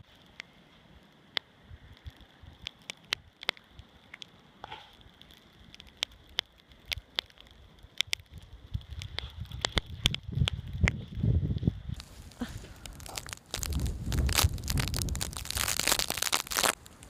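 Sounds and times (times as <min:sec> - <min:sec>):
faint steady hiss: 0:00.0 - 0:17.0
low crunching: 0:00.0 - 0:17.0
snow ticking and crackling: 0:00.0 - 0:17.0.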